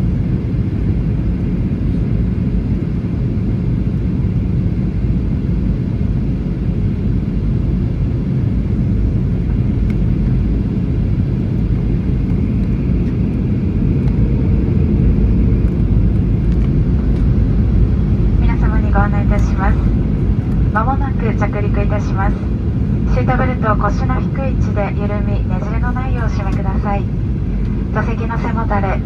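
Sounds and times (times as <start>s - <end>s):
jet engine cabin rumble: 0.0s - 29.0s.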